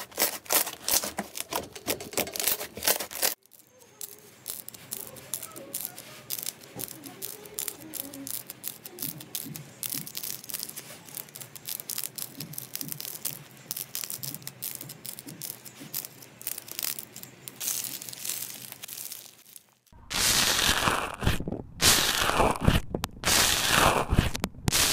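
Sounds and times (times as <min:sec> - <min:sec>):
clay slime crackling and popping: 0:00.0 - 0:24.9.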